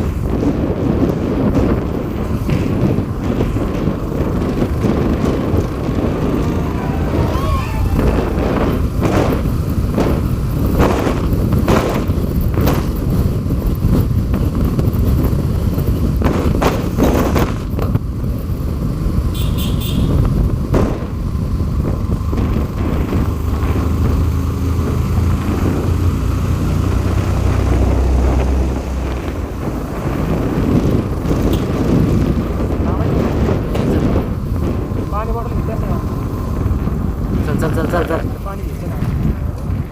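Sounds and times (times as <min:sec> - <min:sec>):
vehicle engine low rumble: 0:00.0 - 0:39.9
wind gusts: 0:00.0 - 0:39.9.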